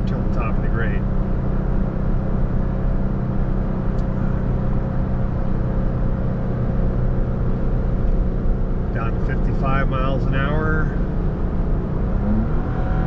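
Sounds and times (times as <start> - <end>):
engine droning under load: 0.0 - 13.0
road noise: 0.0 - 13.0.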